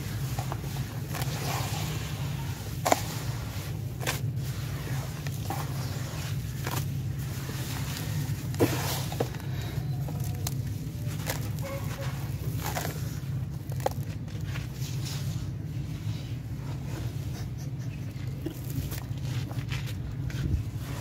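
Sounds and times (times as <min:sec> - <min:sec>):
hands crunching gritty soil: 0:00.0 - 0:16.2, 0:16.8 - 0:21.0
steady low hum: 0:00.0 - 0:21.0.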